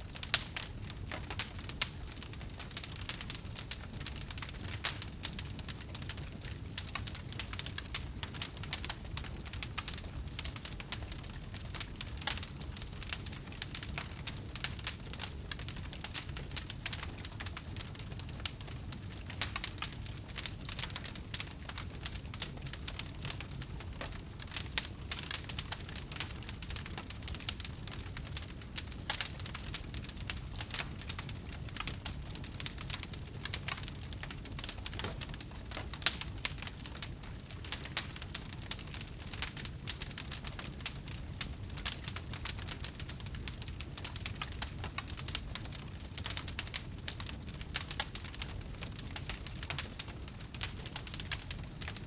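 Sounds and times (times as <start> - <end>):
fire low rumble: 0.0 - 52.0
wood crackling and popping: 0.0 - 52.0.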